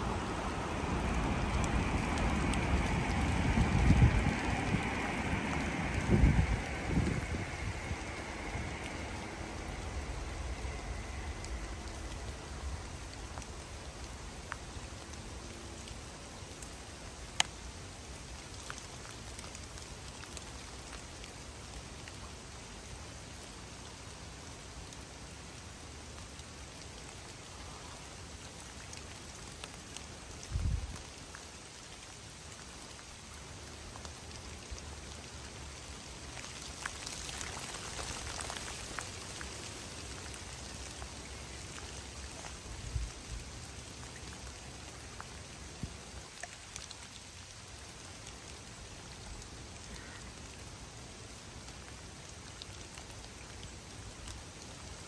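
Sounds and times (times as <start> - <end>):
rain falling on river: 0.0 - 55.0.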